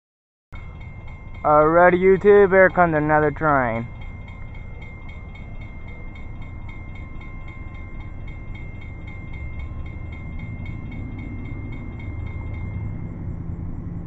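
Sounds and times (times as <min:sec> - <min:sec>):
train low rumble: 0:00.6 - 0:14.0.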